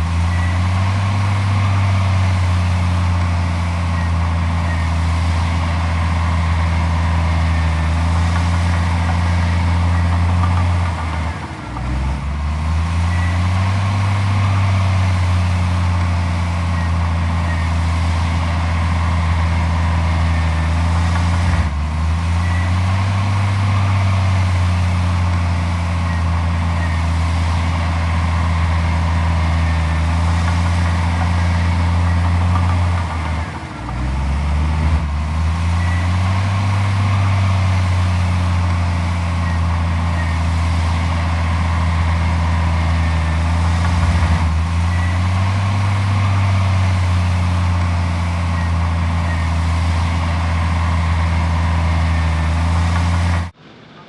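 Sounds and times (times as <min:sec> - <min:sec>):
heavy diesel engine running: 0:00.0 - 0:53.6.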